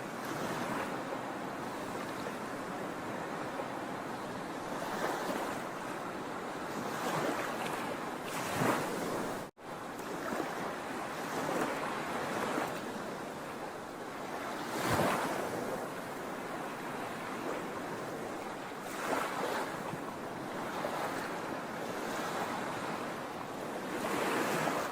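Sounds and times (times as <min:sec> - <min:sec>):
ocean waves breaking on shore: 0:00.0 - 0:24.9.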